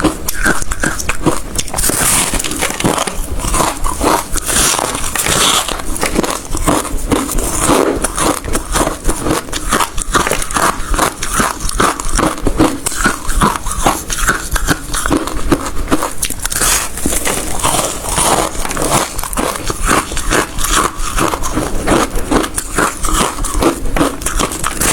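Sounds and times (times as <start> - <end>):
chewing hard ice crunches: 0.0 - 24.9.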